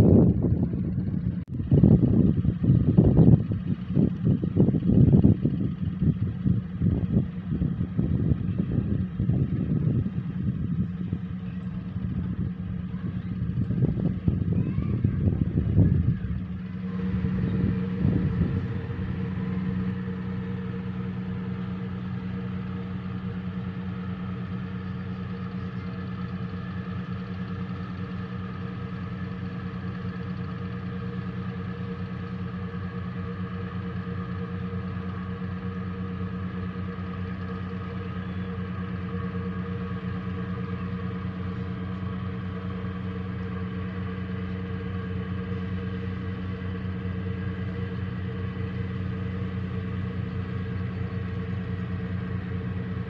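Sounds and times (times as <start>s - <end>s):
boat engine droning: 0.0s - 53.0s
low buffeting: 0.0s - 53.0s.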